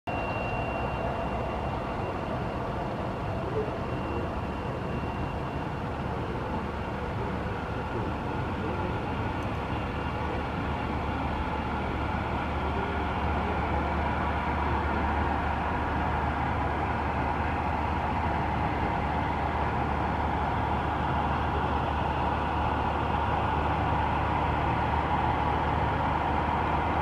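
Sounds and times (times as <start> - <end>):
high whine tone: 0.1 - 24.7.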